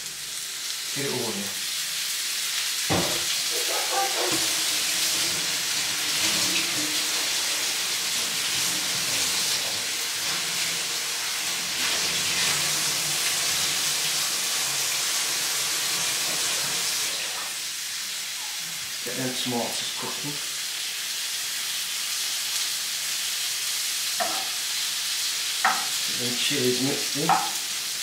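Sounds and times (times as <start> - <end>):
vegetables sizzling in a pan: 0.0 - 28.0.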